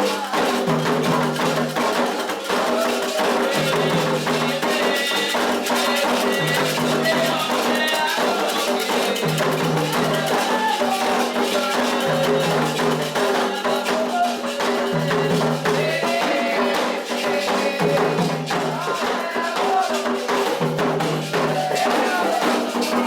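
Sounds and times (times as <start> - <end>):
group singing: 0.0 - 23.0
hand drums: 0.0 - 23.0.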